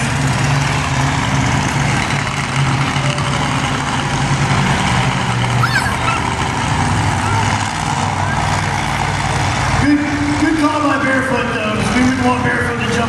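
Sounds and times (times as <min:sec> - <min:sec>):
large engine humming: 0:00.0 - 0:13.0
outdoor crowd noise: 0:00.0 - 0:13.0.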